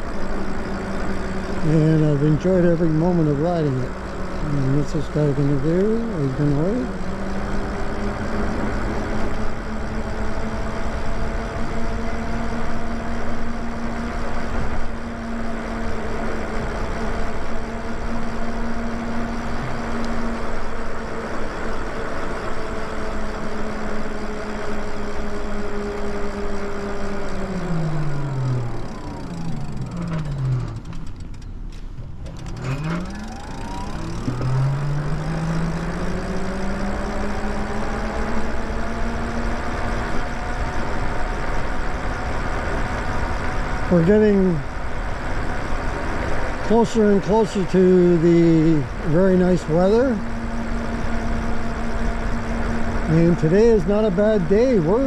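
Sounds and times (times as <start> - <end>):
vehicle motor whine: 0.0 - 55.0
wind and road noise: 0.0 - 55.0.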